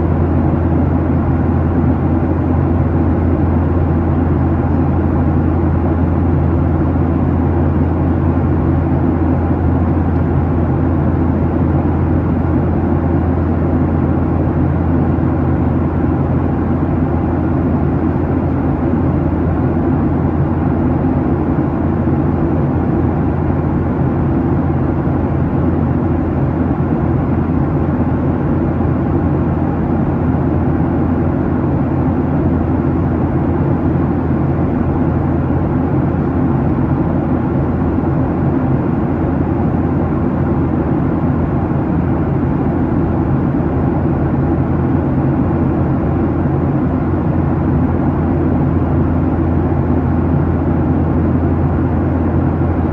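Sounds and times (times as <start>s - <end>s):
jet engine cabin drone: 0.0s - 52.9s.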